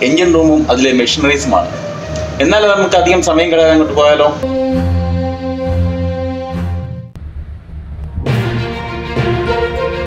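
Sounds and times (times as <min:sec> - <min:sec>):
background music chord: 0:00.0 - 0:07.2, 0:08.1 - 0:10.0.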